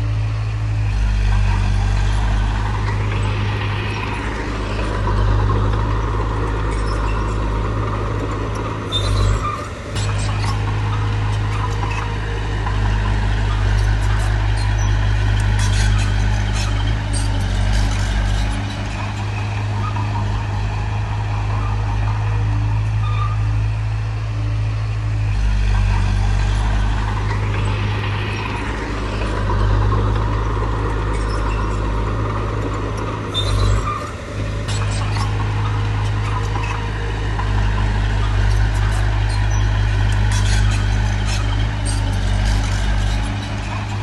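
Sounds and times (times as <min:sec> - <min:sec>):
heavy diesel engine droning: 0:00.0 - 0:44.0.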